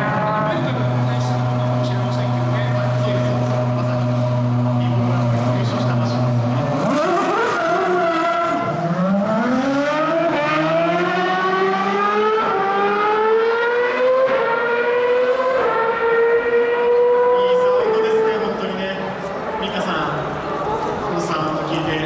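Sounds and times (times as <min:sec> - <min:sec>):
racing engine accelerating: 0:00.0 - 0:19.1.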